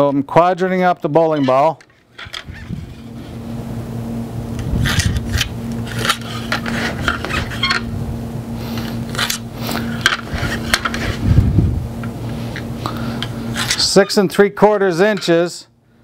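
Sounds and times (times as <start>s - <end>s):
low hum: 1.5s - 14.4s.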